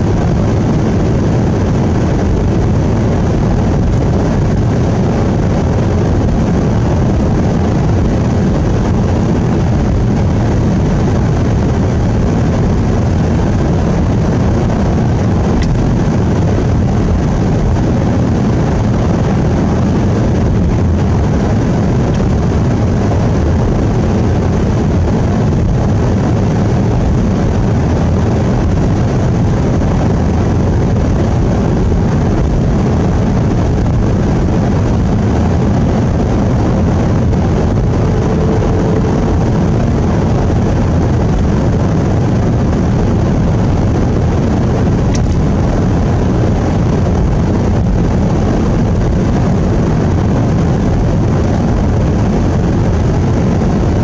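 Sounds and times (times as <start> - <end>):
engine and tyre drone in car: 0.0 - 54.0.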